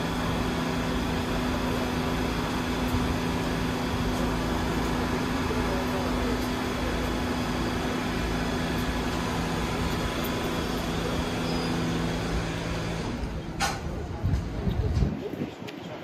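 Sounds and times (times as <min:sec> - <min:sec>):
subway train humming: 0:00.0 - 0:16.0.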